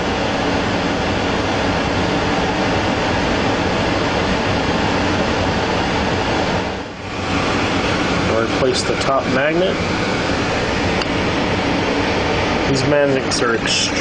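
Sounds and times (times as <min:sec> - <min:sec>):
loud steady rushing noise: 0:00.0 - 0:14.0.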